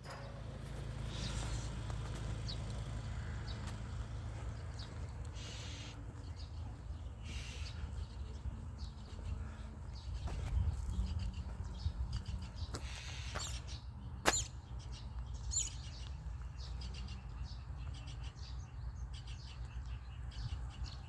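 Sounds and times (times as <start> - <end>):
steady low rumble: 0.0 - 19.0
small birds chirping: 0.0 - 21.0.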